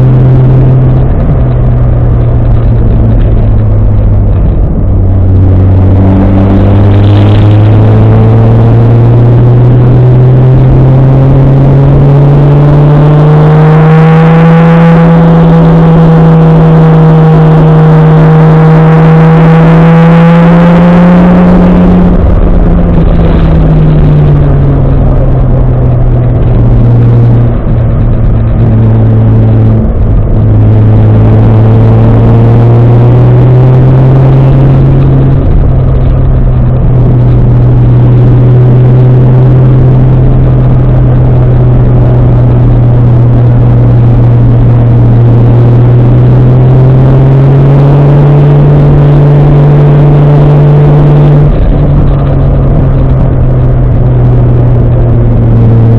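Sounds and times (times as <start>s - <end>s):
car engine running loud: 0.0s - 55.9s.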